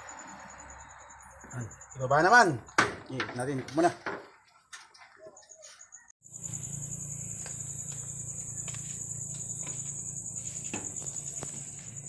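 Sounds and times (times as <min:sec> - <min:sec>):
crickets chirping: 0:00.0 - 0:04.0, 0:05.4 - 0:12.0.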